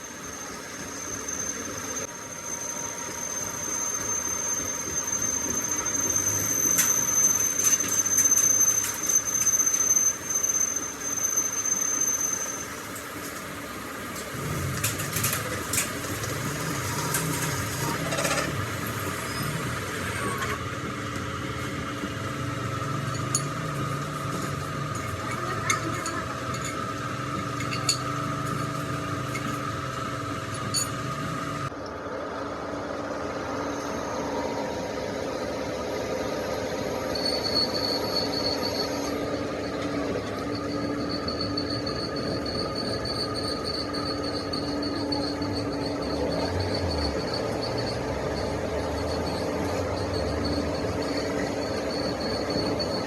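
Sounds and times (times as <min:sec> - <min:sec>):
cutter squealing on steel: 0:00.0 - 0:13.2, 0:14.4 - 0:20.9, 0:21.5 - 0:31.6, 0:33.8 - 0:53.0
machine hum with rumble: 0:00.0 - 0:53.0.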